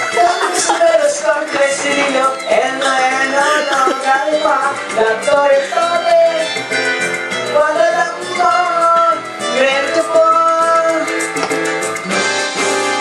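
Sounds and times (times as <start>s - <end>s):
person singing: 0.0s - 6.8s, 7.4s - 11.4s
guitar accompaniment: 0.0s - 13.0s.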